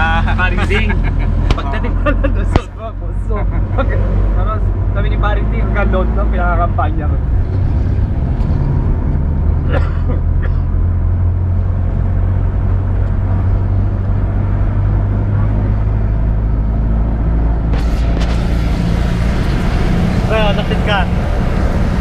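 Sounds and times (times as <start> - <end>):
diesel engine droning: 0.0 - 22.0
road noise: 0.0 - 22.0.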